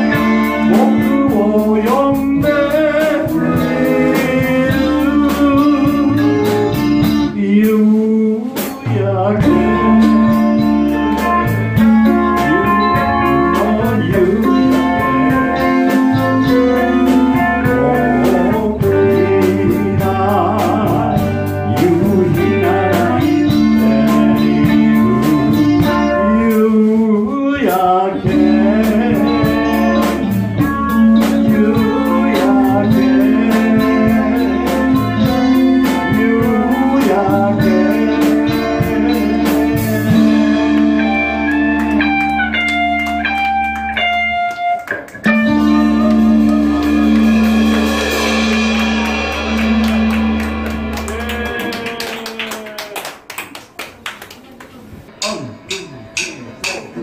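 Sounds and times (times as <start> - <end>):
person singing: 0.0 - 44.4, 45.3 - 53.0, 55.1 - 57.0
electric guitar: 0.0 - 57.0
live rock band: 0.0 - 57.0.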